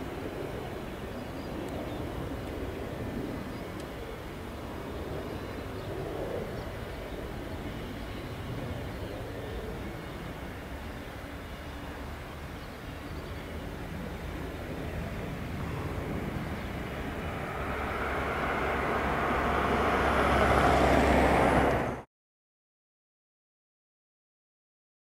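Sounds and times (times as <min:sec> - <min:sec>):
jet engine landing: 0:00.0 - 0:12.0, 0:13.5 - 0:22.0.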